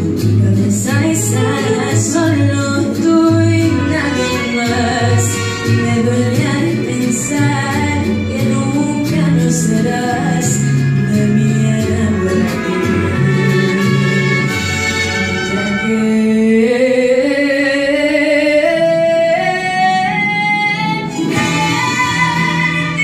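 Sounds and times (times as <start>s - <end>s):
steady bass line: 0.0s - 16.1s, 20.5s - 23.0s
instrumental accompaniment: 0.0s - 16.6s, 18.9s - 23.0s
woman singing into a microphone: 0.0s - 23.0s.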